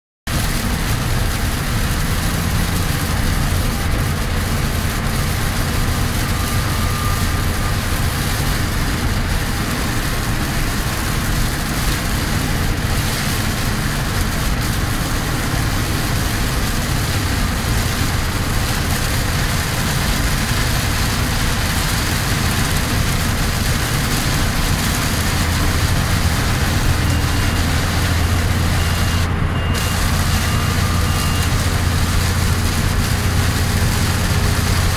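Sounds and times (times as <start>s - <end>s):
diesel engine running: 0.3s - 34.9s
heavy rain on truck cab: 0.3s - 34.9s.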